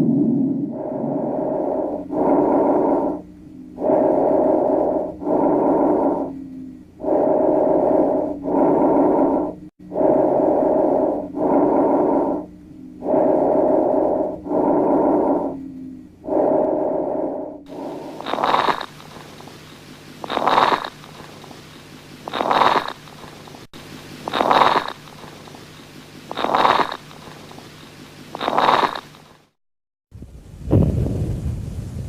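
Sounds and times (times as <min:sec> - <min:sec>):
lung breath sounds: 0:00.0 - 0:29.3
hissy sound: 0:00.0 - 0:29.4.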